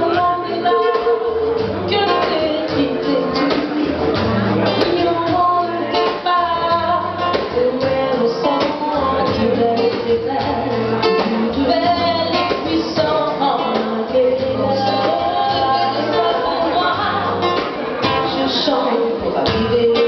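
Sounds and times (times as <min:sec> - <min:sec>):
strummed acoustic guitar: 0:00.0 - 0:20.0
women singing: 0:00.0 - 0:20.0.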